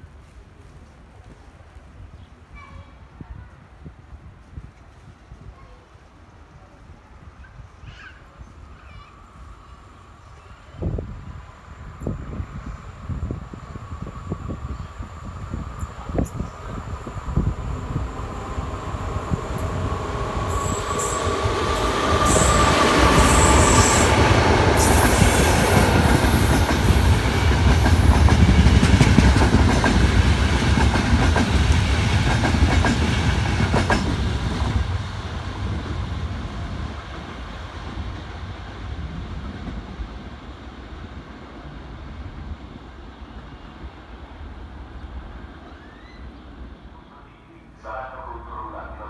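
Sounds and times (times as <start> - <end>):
train passing: 8.4 - 49.0.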